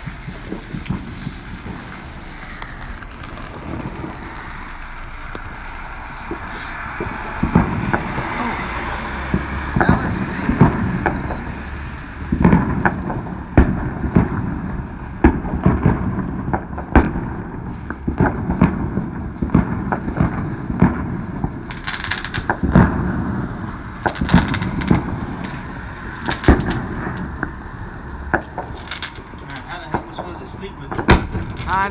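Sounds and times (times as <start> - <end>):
firework crackling: 0.0 - 31.9
fireworks bangs and pops: 0.0 - 31.9
low rumble: 0.0 - 31.9.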